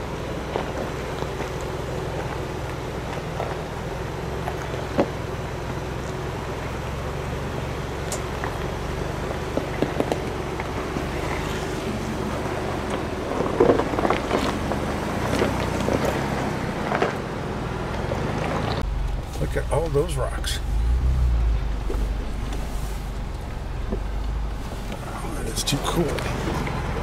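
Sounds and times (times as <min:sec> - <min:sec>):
engine running at low crawl: 0:00.0 - 0:27.0
stones crunching under tires: 0:00.0 - 0:27.0.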